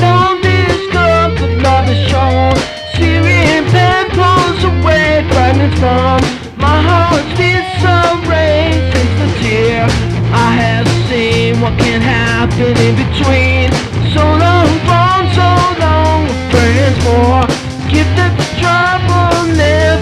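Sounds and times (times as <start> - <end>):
bass: 0.0 - 20.0
drums: 0.0 - 20.0.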